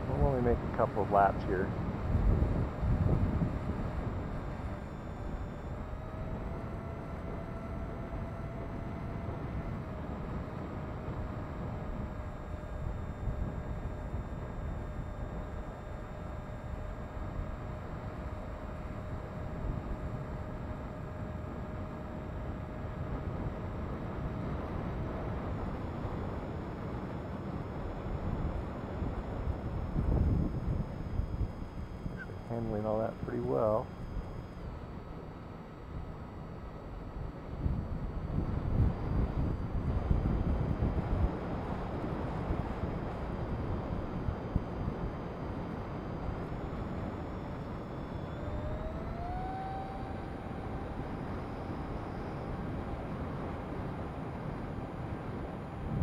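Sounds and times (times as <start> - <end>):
model airplane motor whining: 0.0 - 56.0
wind rumble on microphone: 0.0 - 56.0.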